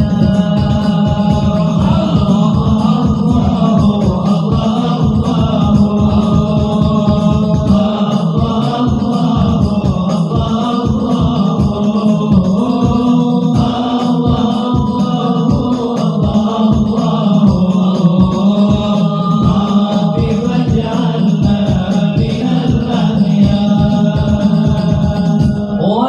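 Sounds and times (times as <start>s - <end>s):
rhythmic low beat: 0.0s - 25.8s
voices chanting devotional praise: 0.0s - 26.0s.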